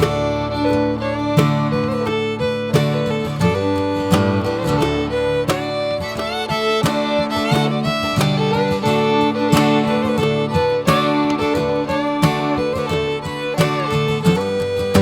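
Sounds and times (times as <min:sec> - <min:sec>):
fiddle melody with sliding notes: 0:00.0 - 0:15.0
strummed and plucked guitar: 0:00.0 - 0:15.0.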